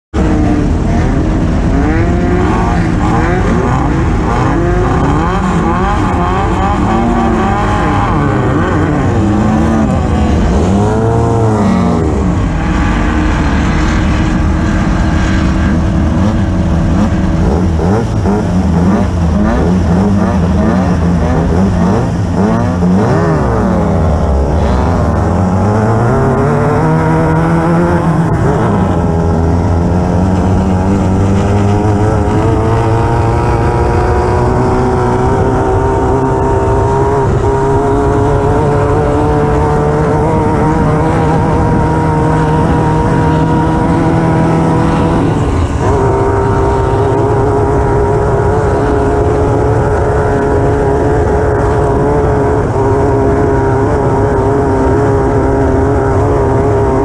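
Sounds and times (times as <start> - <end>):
race car engine revving: 0.1 - 57.0
rough driving noise: 0.1 - 57.0.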